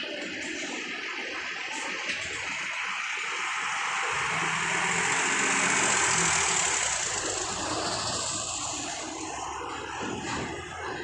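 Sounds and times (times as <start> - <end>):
broad rushing noise: 1.0 - 11.0
bus diesel engine humming: 1.8 - 11.0.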